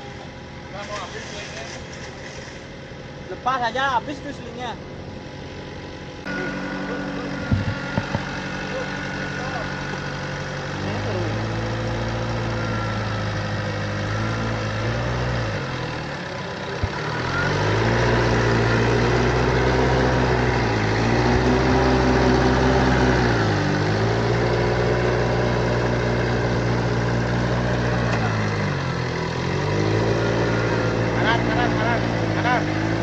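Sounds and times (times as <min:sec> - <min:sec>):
engine revving: 0:05.5 - 0:33.0.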